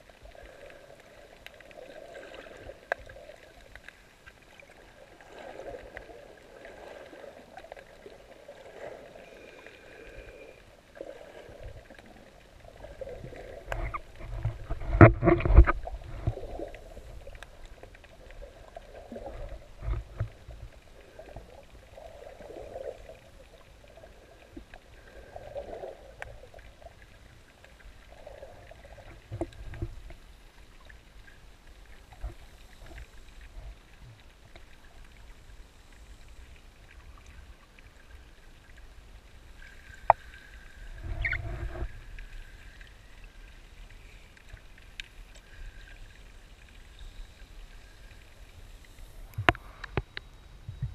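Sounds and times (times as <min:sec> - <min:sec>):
water swirling: 0:00.0 - 0:50.0
muffled underwater water movement: 0:00.0 - 0:50.9.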